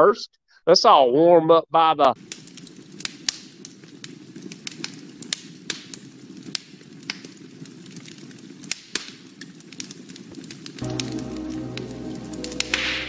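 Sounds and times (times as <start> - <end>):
log fire crackling: 2.2 - 13.0.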